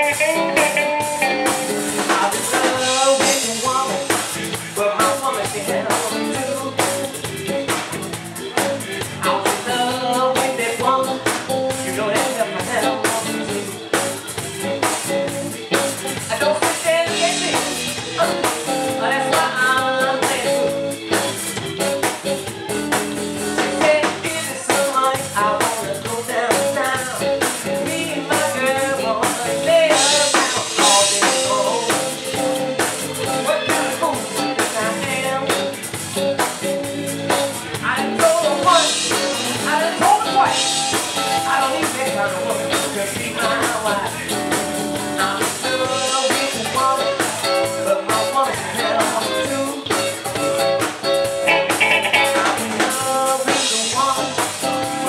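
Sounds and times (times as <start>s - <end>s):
blues band playing: 0.0s - 55.0s
electric guitar with bent notes: 0.0s - 55.0s.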